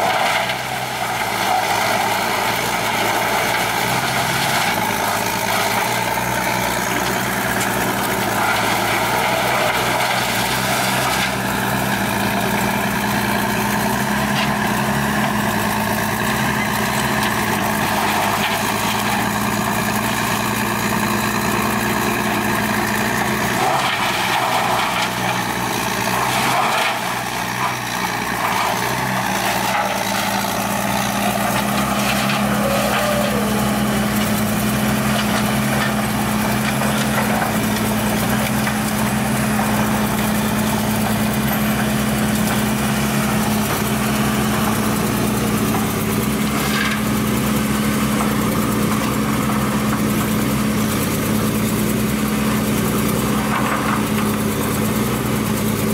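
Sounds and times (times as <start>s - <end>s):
excavator engine droning: 0.0s - 55.9s
wood grinder running: 0.0s - 55.9s.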